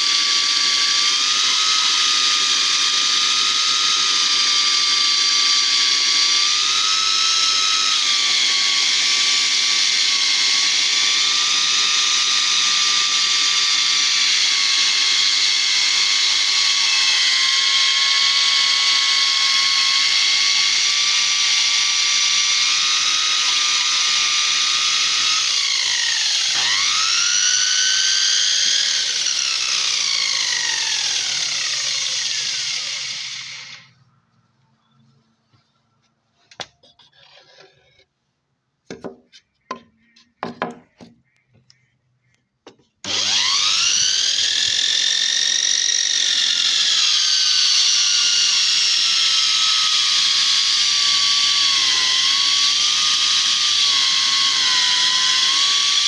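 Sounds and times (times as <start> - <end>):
bandsaw motor whining: 0.0 - 34.1, 43.0 - 56.0.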